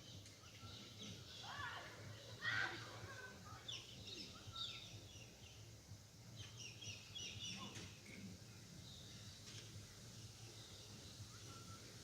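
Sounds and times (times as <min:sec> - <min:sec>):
faint background noise: 0:00.0 - 0:12.0
wild birds chirping: 0:00.0 - 0:12.0.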